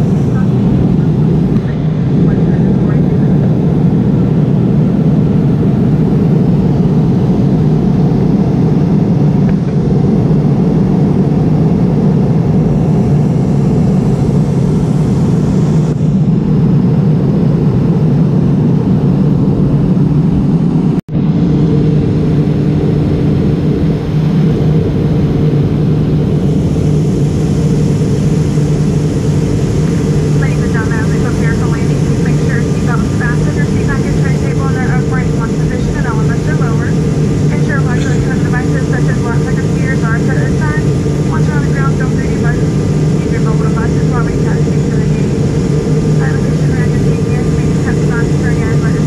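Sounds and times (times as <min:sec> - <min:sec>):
airplane cabin engine rumble: 0:00.0 - 0:49.0.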